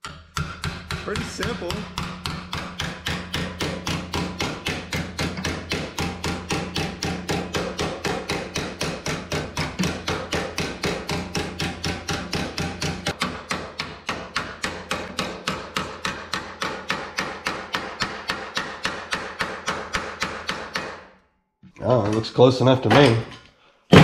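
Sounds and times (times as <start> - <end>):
hammer tapping on sheet steel: 0.0 - 21.1.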